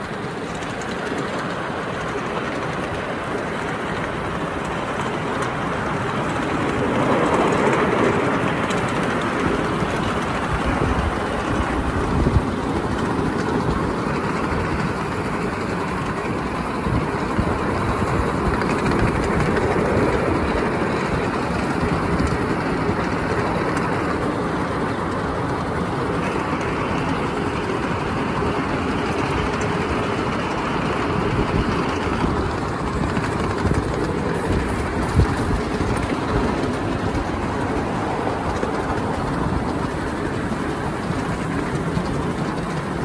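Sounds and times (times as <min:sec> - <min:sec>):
miniature train wheels clattering on rails: 0:00.0 - 0:43.0.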